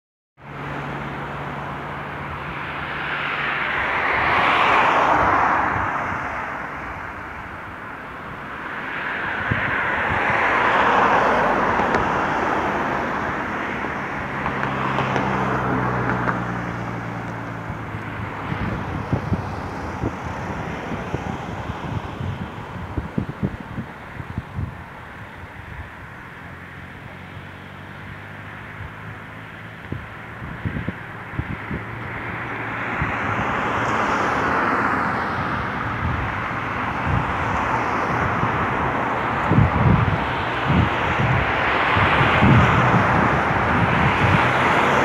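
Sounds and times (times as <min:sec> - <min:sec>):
road traffic passing: 0:00.4 - 0:45.0
wind buffeting microphone: 0:01.5 - 0:45.0.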